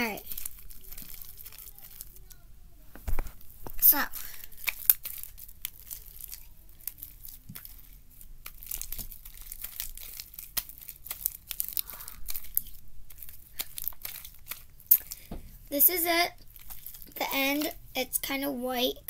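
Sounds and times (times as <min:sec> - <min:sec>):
slime popping and crackling: 0:00.0 - 0:17.9.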